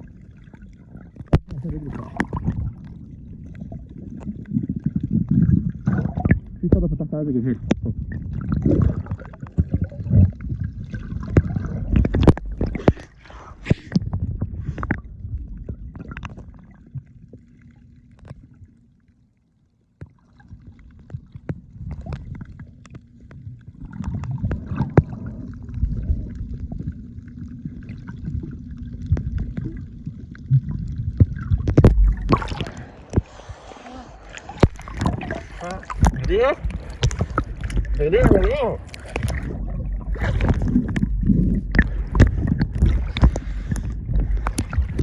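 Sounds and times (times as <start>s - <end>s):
muffled water sloshing underwater: 0.0s - 45.0s.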